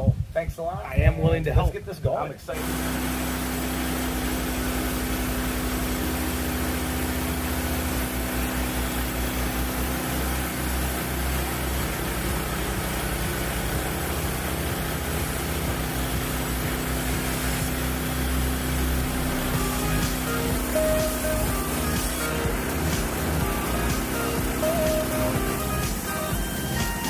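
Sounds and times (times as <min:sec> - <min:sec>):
engine idling: 0:02.6 - 0:27.0.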